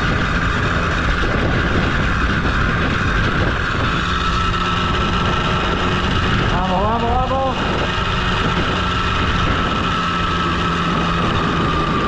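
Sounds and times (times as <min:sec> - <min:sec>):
motorbike engine whining: 0:00.0 - 0:12.0.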